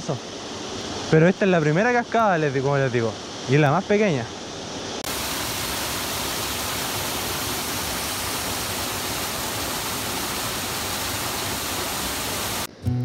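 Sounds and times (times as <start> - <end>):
waterfall rushing into pool: 0.0 - 12.7.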